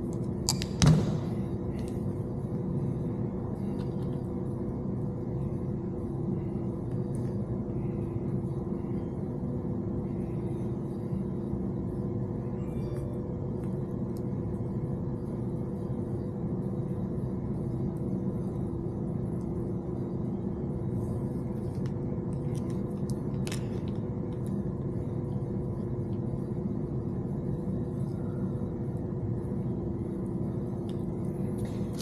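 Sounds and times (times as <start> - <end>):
low rumble and hum: 0.0 - 32.0.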